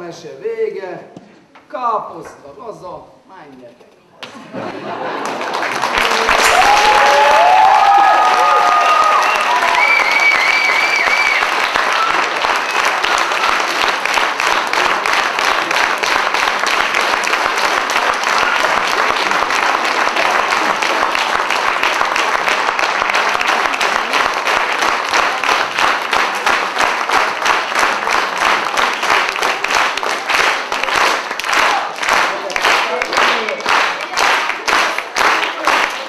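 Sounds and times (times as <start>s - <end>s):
children applauding: 5.1s - 36.0s.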